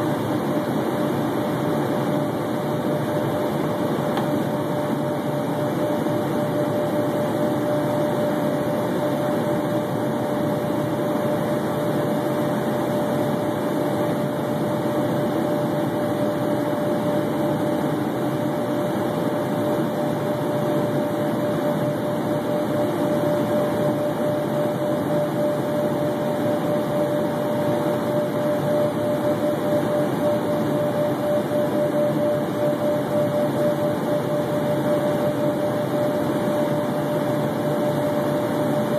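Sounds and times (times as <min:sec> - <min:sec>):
jet cabin engine noise: 0:00.0 - 0:38.9
steady whine: 0:00.0 - 0:38.9.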